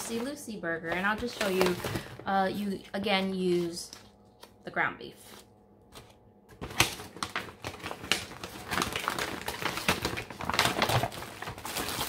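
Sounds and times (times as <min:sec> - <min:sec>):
food packaging crinkling: 0:00.0 - 0:04.6, 0:05.8 - 0:12.0.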